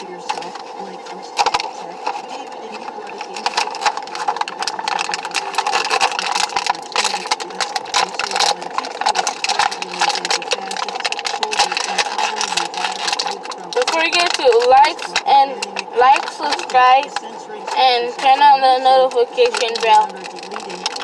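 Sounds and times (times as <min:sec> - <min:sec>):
steady hum: 0:00.0 - 0:21.0
packaging crinkling and clicking: 0:01.4 - 0:21.0.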